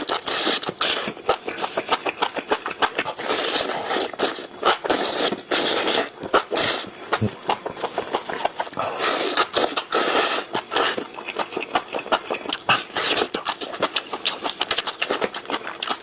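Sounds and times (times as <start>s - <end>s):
slurping: 0.0s - 16.0s
wet chewing and mouth smacks: 0.0s - 16.0s.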